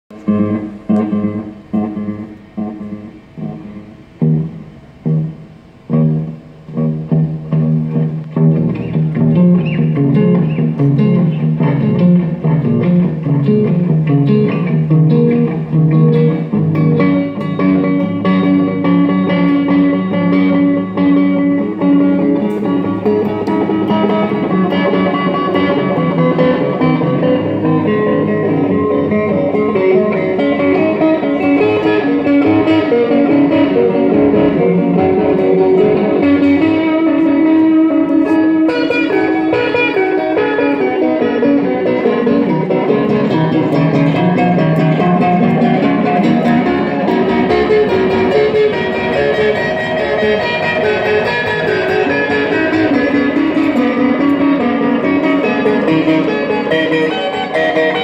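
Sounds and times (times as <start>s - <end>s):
electric guitar with delay: 0.1s - 58.0s.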